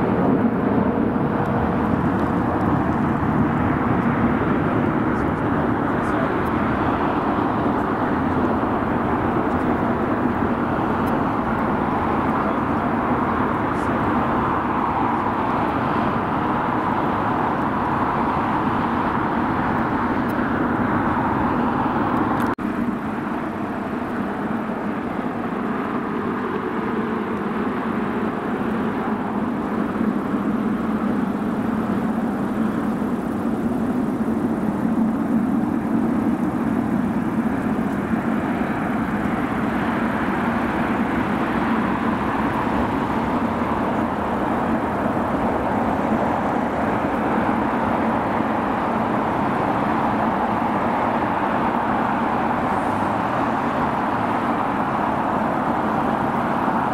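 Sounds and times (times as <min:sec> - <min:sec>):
engine and traffic roar: 0:00.0 - 0:56.9
low hum: 0:00.0 - 0:56.9.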